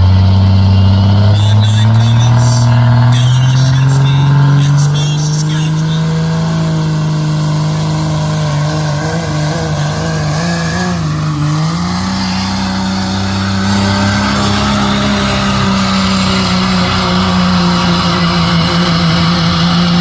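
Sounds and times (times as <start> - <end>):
diesel truck engine under load: 0.0 - 20.0.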